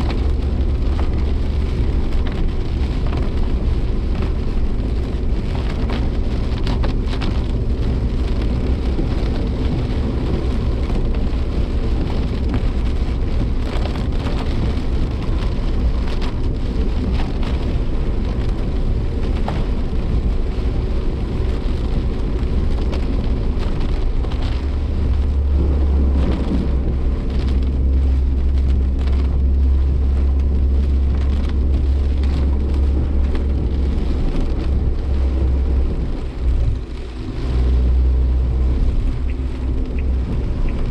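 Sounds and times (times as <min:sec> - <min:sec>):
rain pattering on car body: 0:00.0 - 0:40.9
road and engine rumble: 0:00.0 - 0:40.9.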